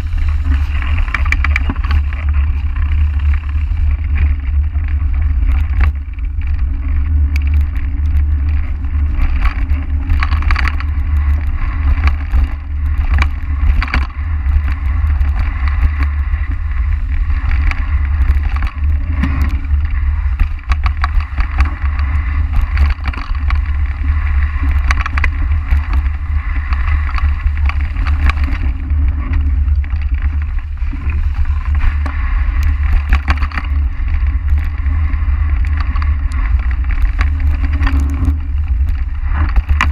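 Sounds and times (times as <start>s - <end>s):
bike clicks and knocks: 0.0s - 39.9s
tyres rolling through leaves: 0.0s - 39.9s
wind rumble on microphone: 0.0s - 39.9s.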